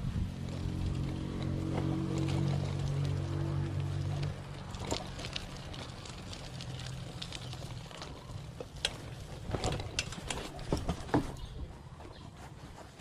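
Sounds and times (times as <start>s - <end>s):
bicycle rattling on dirt trail: 0.0s - 13.0s.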